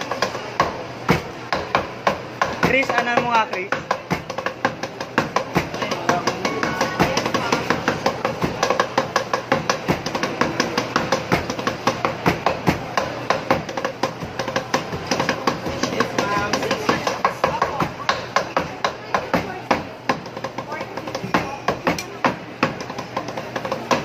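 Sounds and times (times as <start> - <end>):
cleavers chopping on boards: 0.0 - 24.0.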